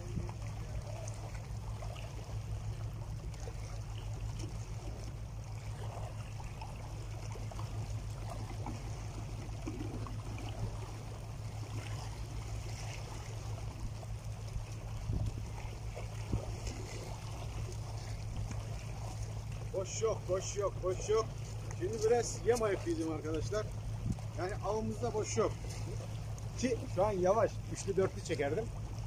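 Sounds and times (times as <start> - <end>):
small water splashes: 0.0 - 29.0
small waves lapping on rocks: 0.0 - 29.0
steady low rumble: 0.0 - 29.0.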